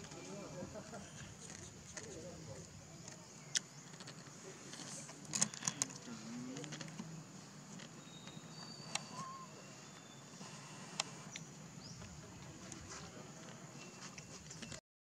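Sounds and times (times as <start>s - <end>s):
faint bird notes: 0.0s - 14.8s
high insect hum: 0.0s - 14.8s.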